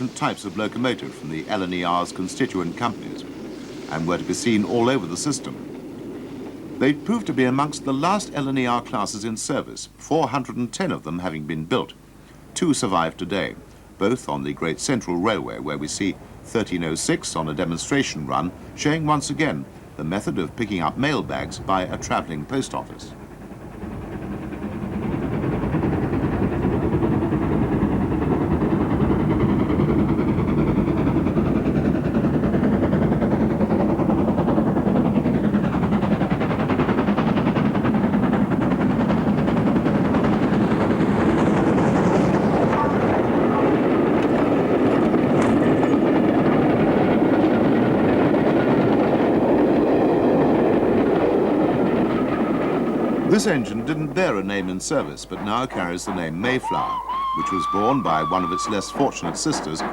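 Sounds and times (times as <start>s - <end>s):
steam locomotive rumbling: 0.0s - 59.9s.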